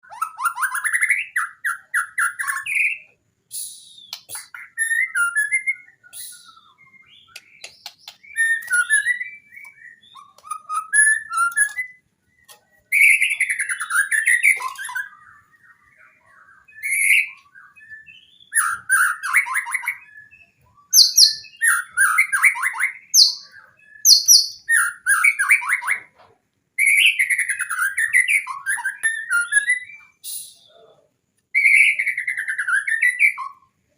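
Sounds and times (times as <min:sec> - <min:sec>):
songbird singing whistles and trills: 0:00.0 - 0:33.9.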